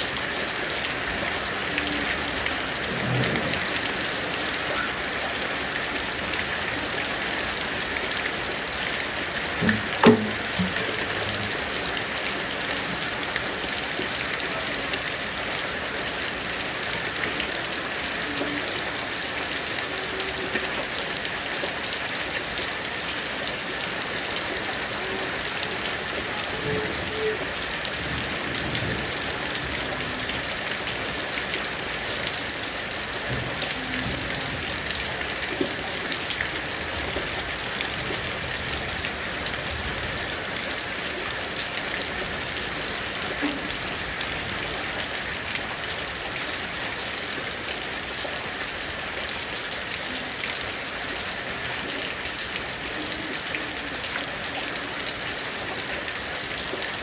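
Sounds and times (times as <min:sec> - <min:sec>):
raindrops hitting: 0:00.0 - 0:57.0
steady rain hiss: 0:00.0 - 0:57.0.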